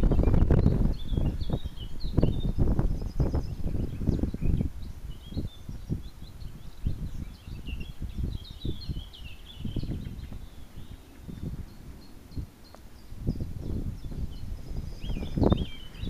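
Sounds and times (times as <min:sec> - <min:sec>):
small birds chirping: 0:00.0 - 0:16.0
wind buffeting microphone: 0:00.0 - 0:16.0.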